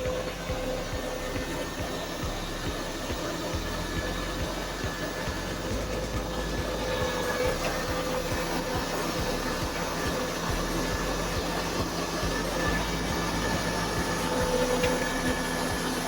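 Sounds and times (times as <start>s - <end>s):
engine running with whine: 0.0s - 16.0s.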